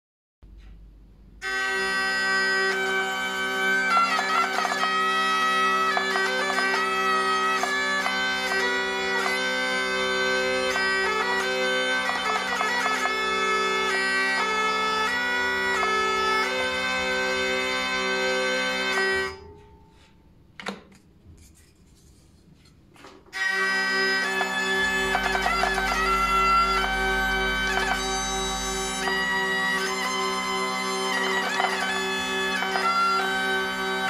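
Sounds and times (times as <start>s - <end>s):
hurdy-gurdy playing a tune: 1.4s - 19.6s, 23.3s - 34.0s.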